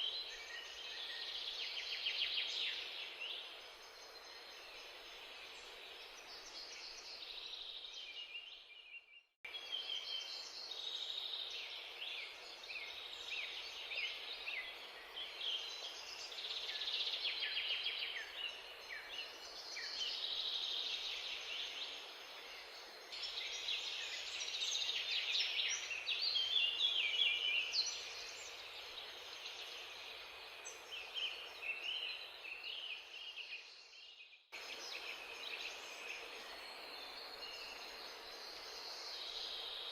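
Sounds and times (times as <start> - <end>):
background hiss: 0.0 - 8.5, 9.5 - 39.9
small birds chirping: 0.0 - 39.9.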